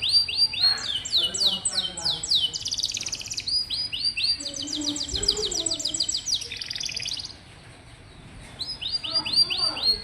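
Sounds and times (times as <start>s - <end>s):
canary singing trilled song: 0.0s - 10.0s.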